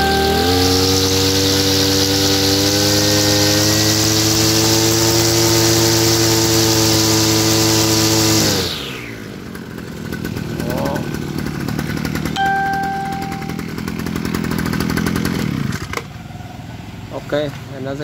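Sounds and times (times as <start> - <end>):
brush cutter engine revving high: 0.0 - 16.1.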